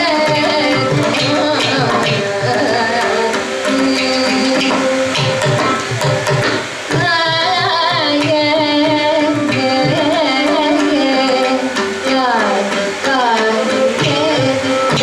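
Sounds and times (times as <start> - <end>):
woman singing: 0.0 - 5.6, 6.9 - 15.0
hand drum strokes: 0.0 - 15.0
violin: 0.0 - 15.0.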